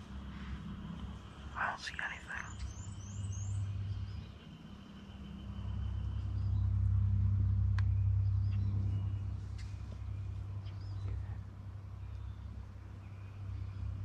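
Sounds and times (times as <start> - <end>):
distant vehicle motor drone: 0.0 - 1.8, 2.5 - 14.0
songbird chirps: 0.0 - 14.0.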